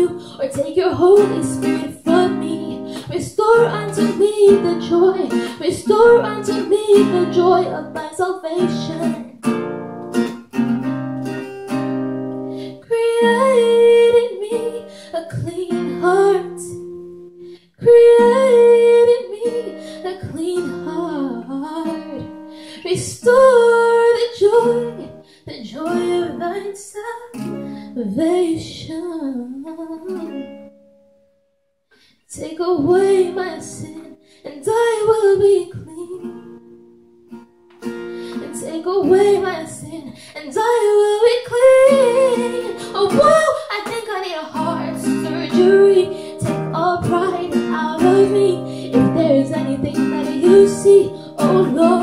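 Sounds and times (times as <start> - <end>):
woman singing: 0.0 - 9.5, 12.6 - 16.9, 17.7 - 30.5, 32.3 - 36.6, 38.3 - 52.0
strummed acoustic guitar: 0.0 - 26.6, 35.0 - 52.0.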